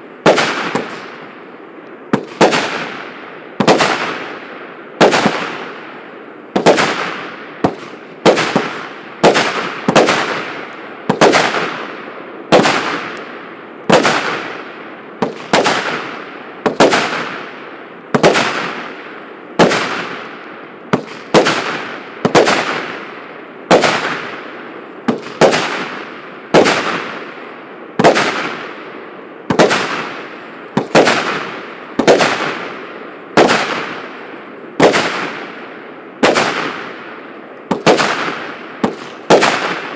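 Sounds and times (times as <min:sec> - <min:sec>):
firework bangs with echo: 0:00.2 - 0:01.3, 0:02.1 - 0:05.9, 0:06.6 - 0:13.2, 0:13.9 - 0:24.4, 0:25.0 - 0:27.3, 0:28.0 - 0:28.8, 0:29.5 - 0:34.2, 0:34.8 - 0:35.6, 0:36.2 - 0:37.1, 0:37.7 - 0:39.9.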